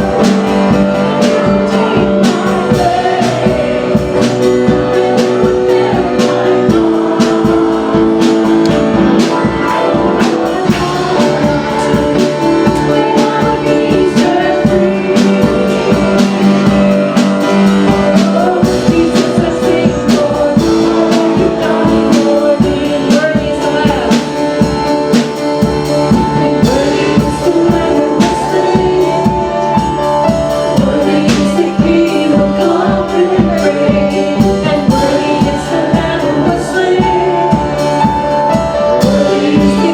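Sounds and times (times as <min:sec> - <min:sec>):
band with drum beat: 0:00.0 - 0:39.9
worship music singing: 0:00.0 - 0:39.9.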